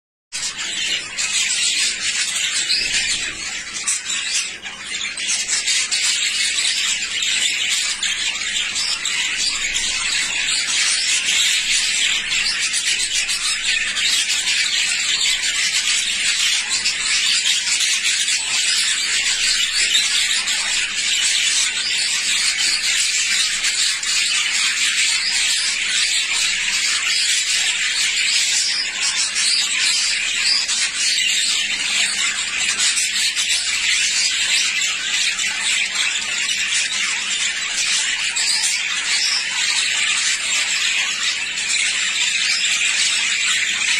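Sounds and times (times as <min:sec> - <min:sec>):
budgerigars chattering: 0:00.4 - 0:43.9.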